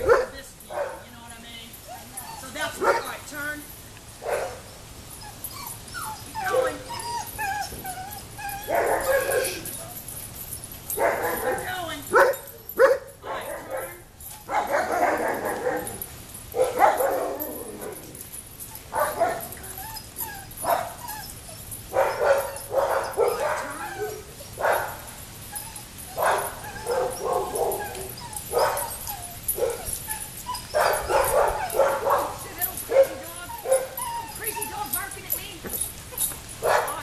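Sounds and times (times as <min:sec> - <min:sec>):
dog whining: 0:01.8 - 0:02.8, 0:04.5 - 0:12.6, 0:13.6 - 0:36.8
small dog barking and yipping: 0:04.1 - 0:37.0.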